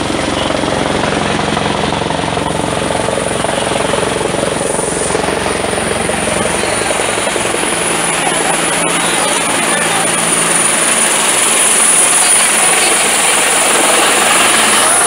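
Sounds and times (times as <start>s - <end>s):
helicopter engine drone: 0.0s - 15.0s
helicopter rotor chopping: 0.0s - 15.0s.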